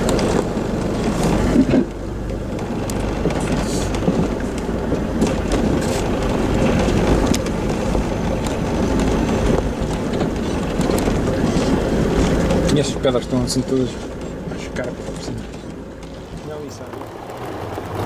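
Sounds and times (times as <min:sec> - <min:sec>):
knocks and rattles: 0:00.0 - 0:18.0
vehicle engine and road rumble: 0:00.0 - 0:18.0.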